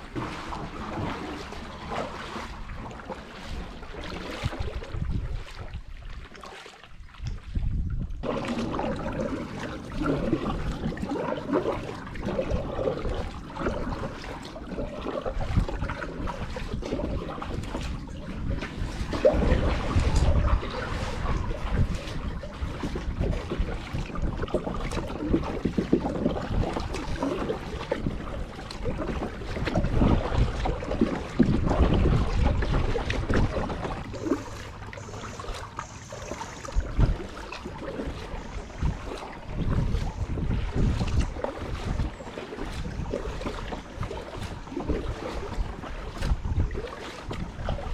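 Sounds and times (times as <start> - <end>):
kayak paddle splashing: 0.0 - 47.9
water trickling: 0.0 - 47.9
wind rumbling on microphone: 0.0 - 47.9.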